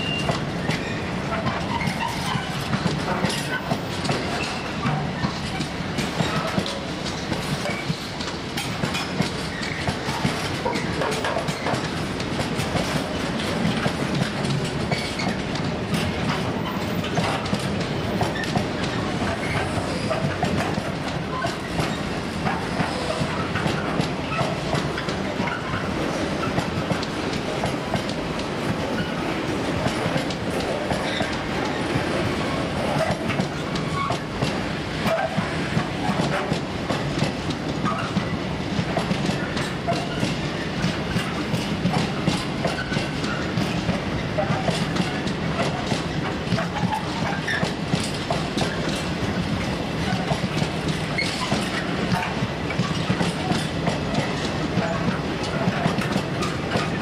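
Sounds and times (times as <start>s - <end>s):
train wheels rumbling on rail: 0.0s - 57.0s
wheels clattering over rail joints: 0.0s - 57.0s.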